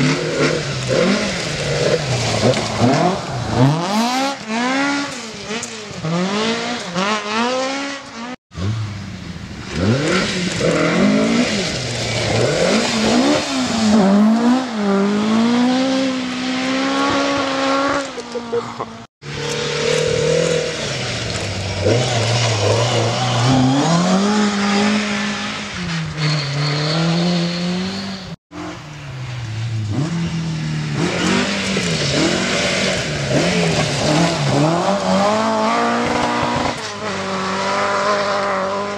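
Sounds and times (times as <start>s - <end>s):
rally car engines revving: 0.0s - 38.9s
road noise: 0.0s - 38.9s.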